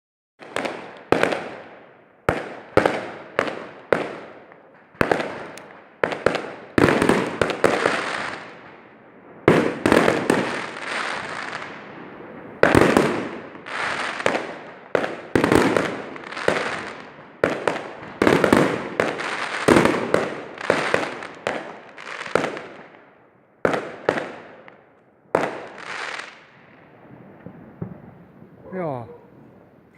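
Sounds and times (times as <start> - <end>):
fireworks banging: 0.4 - 23.0, 23.6 - 29.9.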